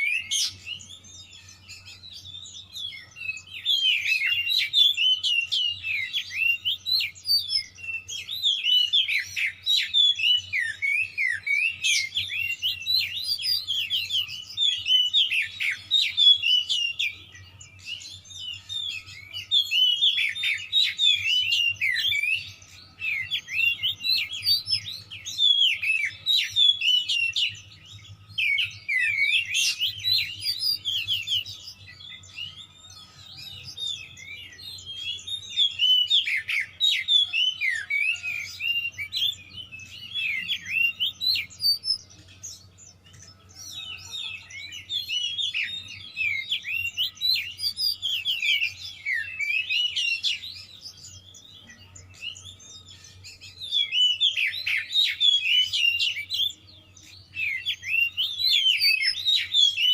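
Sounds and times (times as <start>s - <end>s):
bird singing whistles and chirps: 0.0s - 59.9s.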